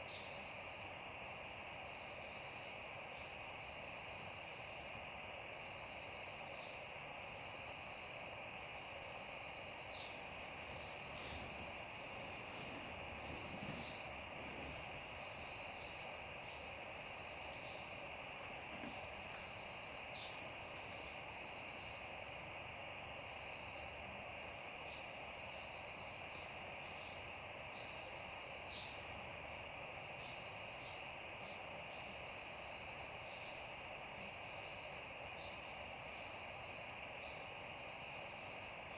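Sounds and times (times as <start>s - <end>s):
crickets trilling: 0.0s - 38.9s
even background hiss: 0.0s - 38.9s.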